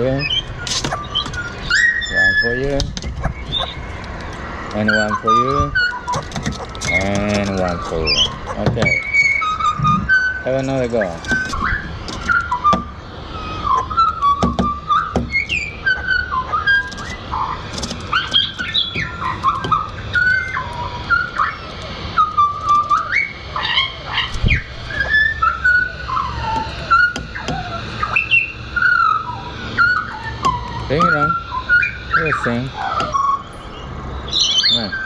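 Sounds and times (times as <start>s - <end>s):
birds singing fluting whistles: 0.0s - 35.0s.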